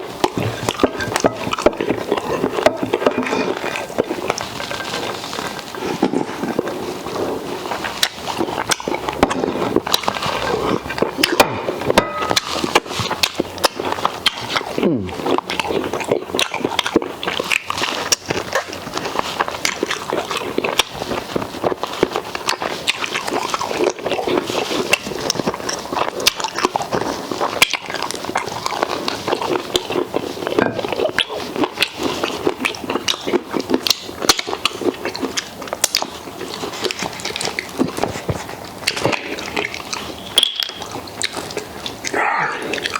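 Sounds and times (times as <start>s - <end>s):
person chewing and slurping: 0.0s - 42.9s.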